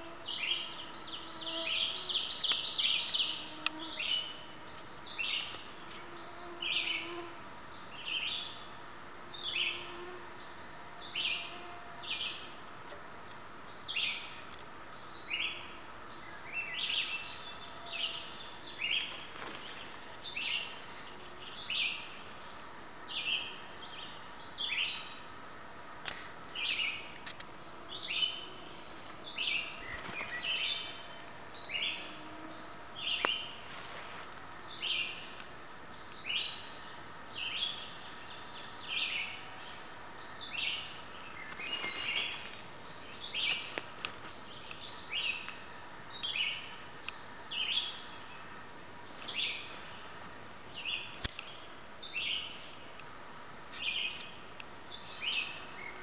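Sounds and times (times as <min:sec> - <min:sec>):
long birdsong: 0:00.0 - 0:56.0.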